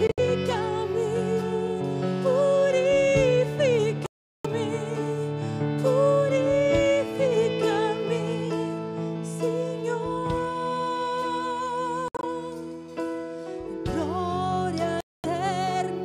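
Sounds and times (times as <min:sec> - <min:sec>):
woman singing into microphone: 0:00.0 - 0:13.0, 0:13.8 - 0:16.0.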